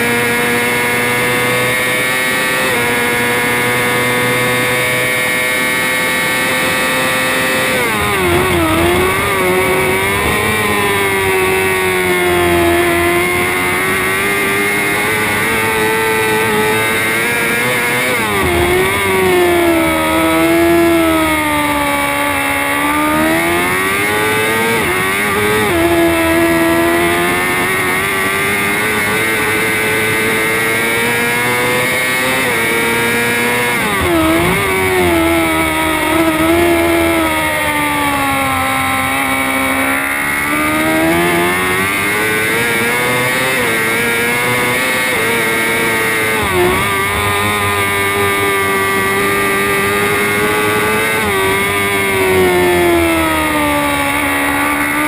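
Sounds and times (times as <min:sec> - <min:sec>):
racing motorcycle engine revving: 0:00.0 - 0:55.0.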